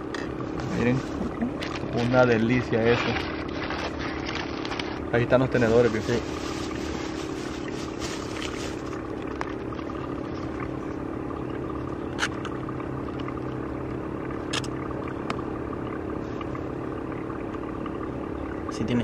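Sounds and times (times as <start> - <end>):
engine-like hum: 0.0 - 19.0.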